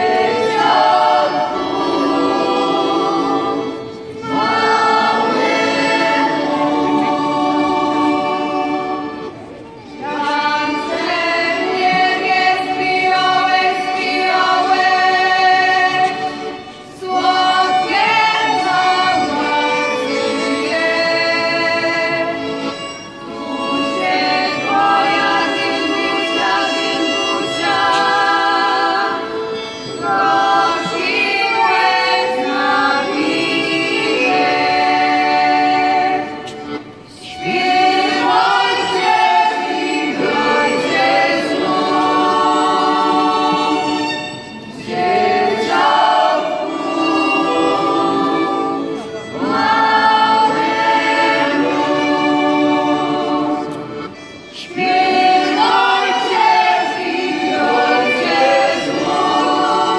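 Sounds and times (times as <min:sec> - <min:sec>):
women's choir singing a carol: 0:00.0 - 0:59.9.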